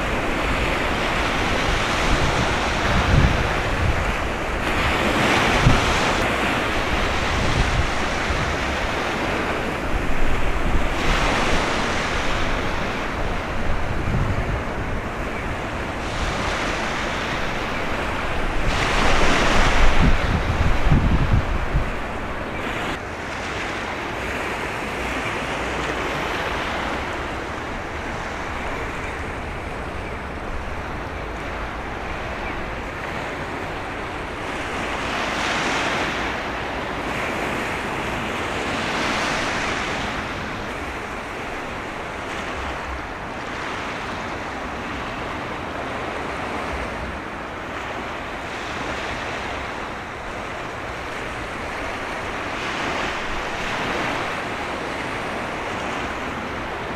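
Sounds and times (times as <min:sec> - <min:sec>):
sea water splashing: 0:00.0 - 0:56.9
wind buffeting microphone: 0:00.0 - 0:56.9.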